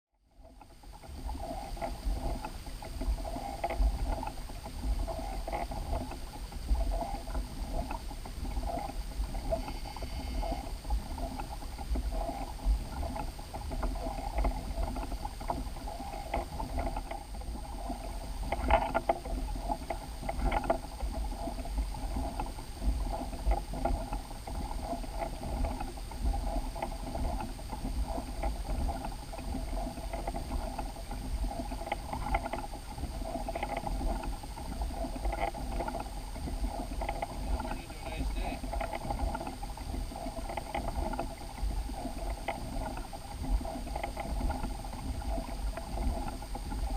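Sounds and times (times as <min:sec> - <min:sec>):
water lapping against boat hull: 0:00.3 - 0:46.9.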